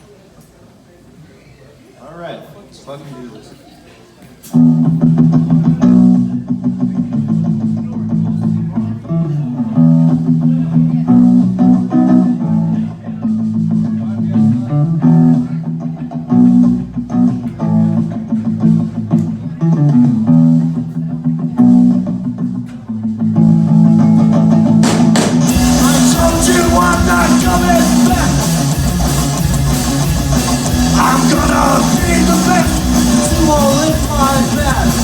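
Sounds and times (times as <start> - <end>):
electric guitar riff: 4.5 - 35.0
rock band playing: 4.6 - 35.0.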